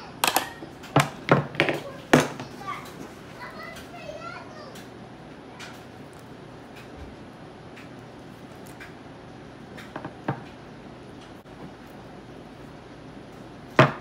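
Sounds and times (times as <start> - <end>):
room noise: 0.0 - 14.0.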